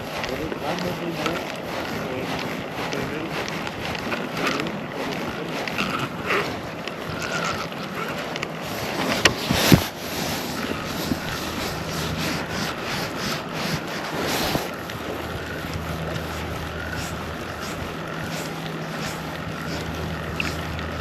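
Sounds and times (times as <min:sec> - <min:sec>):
water rushing: 0:00.0 - 0:21.0
wind buffeting microphone: 0:00.0 - 0:21.0.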